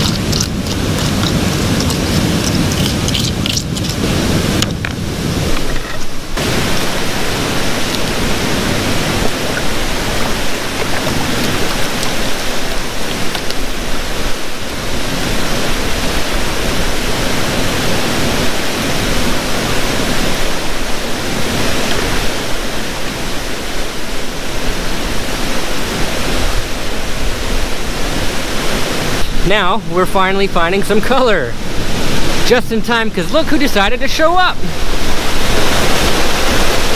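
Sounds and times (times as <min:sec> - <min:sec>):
fast-flowing creek water: 0:00.0 - 0:36.9
waterfall rushing: 0:00.0 - 0:36.9.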